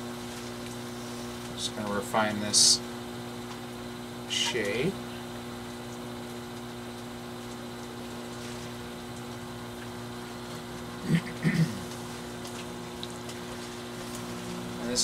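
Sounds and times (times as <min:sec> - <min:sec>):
potter's wheel humming: 0:00.0 - 0:15.0.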